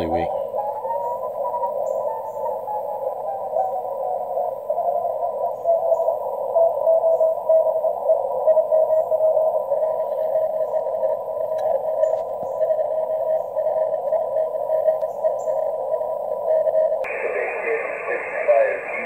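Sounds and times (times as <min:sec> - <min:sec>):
radio band noise hiss: 0:00.0 - 0:19.0.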